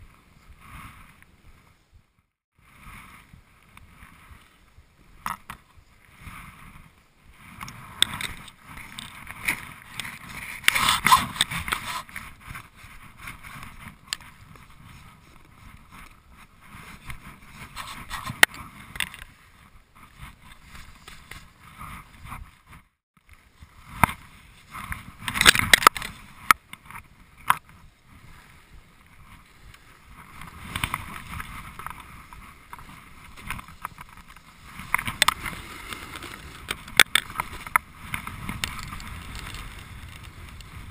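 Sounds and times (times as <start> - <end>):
snowboard scraping over snow: 2.6 - 22.6, 23.4 - 40.9.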